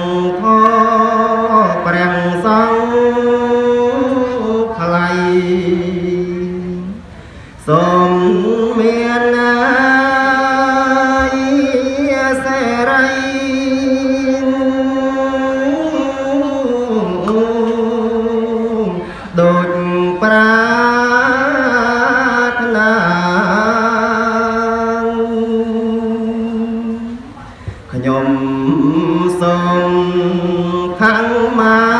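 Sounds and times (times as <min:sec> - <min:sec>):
man chanting into a microphone: 0:00.0 - 0:31.9.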